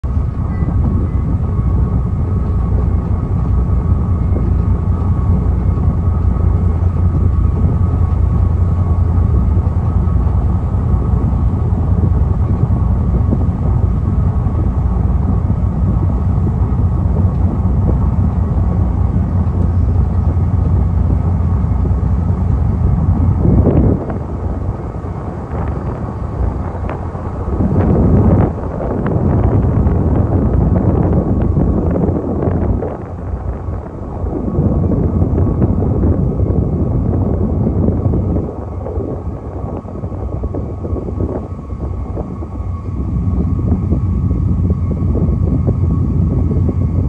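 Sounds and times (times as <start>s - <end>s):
faint high hum: 0.0s - 47.0s
ship engines rumbling: 0.0s - 47.0s.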